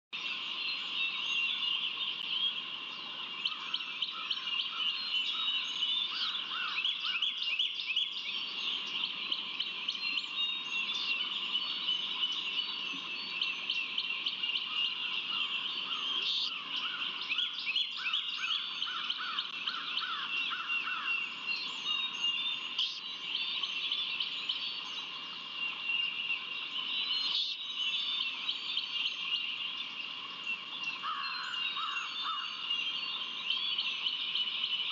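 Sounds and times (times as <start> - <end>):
small birds chirping and trilling: 0.2 - 34.9.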